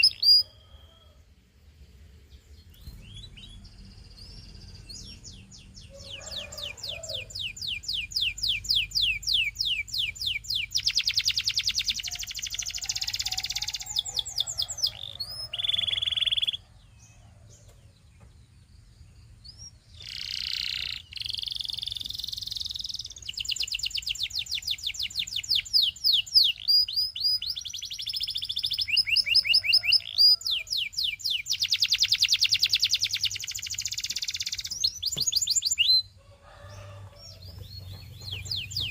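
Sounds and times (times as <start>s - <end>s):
canary singing: 0.0s - 1.1s, 2.3s - 18.0s, 19.3s - 38.9s.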